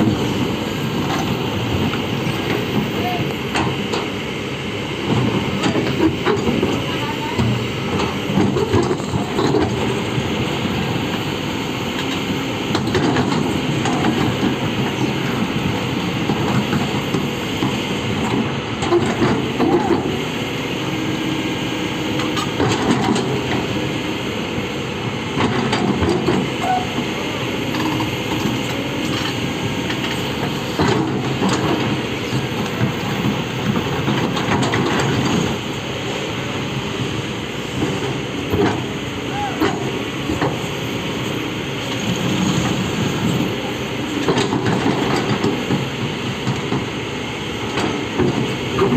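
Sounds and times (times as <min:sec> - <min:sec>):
heavy excavator running: 0:00.0 - 0:48.9.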